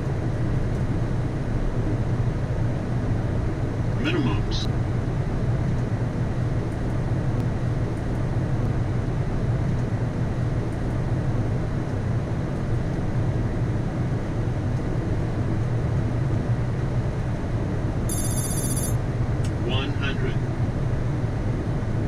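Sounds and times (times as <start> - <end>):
airflow and jet engine rush: 0.0 - 18.1, 19.0 - 22.0.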